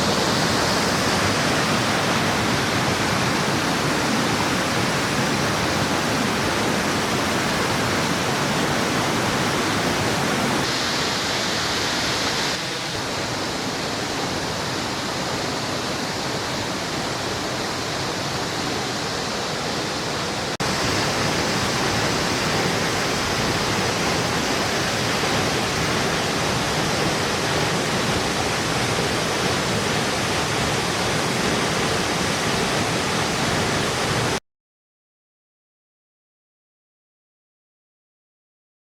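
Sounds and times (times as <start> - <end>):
falling water rushing: 0.0 - 34.4.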